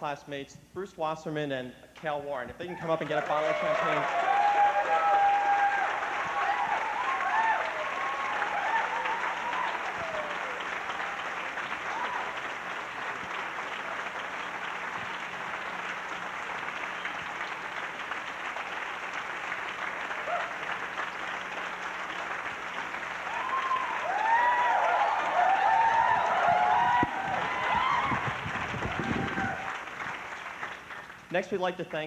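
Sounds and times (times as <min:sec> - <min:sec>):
audience applauding: 0:02.7 - 0:31.5.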